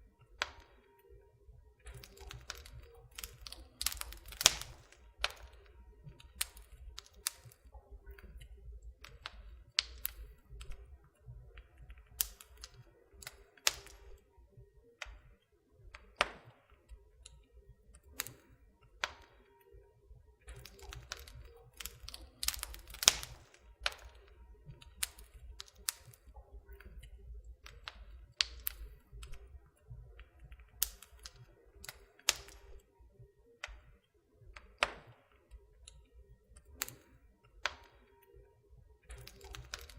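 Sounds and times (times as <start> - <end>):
fire crackling and popping: 0.2 - 1.0, 1.7 - 14.4, 15.0 - 19.5, 20.3 - 32.9, 33.6 - 38.2, 39.0 - 39.9.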